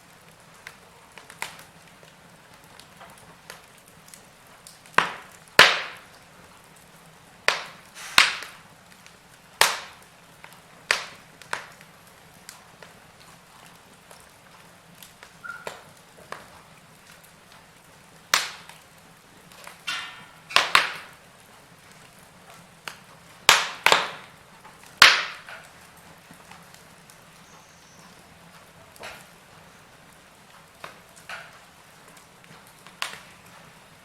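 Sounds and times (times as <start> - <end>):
faint steady hiss: 0.0 - 34.0
wood fire crackling: 0.0 - 34.0.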